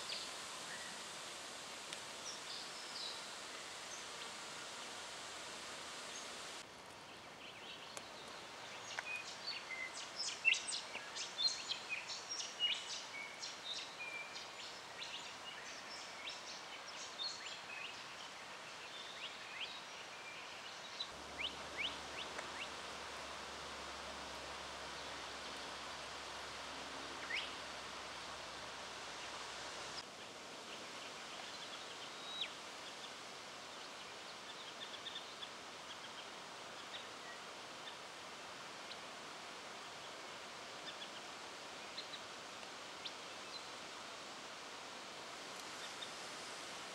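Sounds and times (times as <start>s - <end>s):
steady outdoor hiss: 0.0s - 46.9s.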